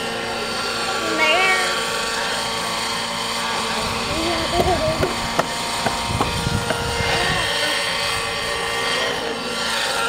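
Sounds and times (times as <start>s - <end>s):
model helicopter engine whine: 0.0s - 10.0s.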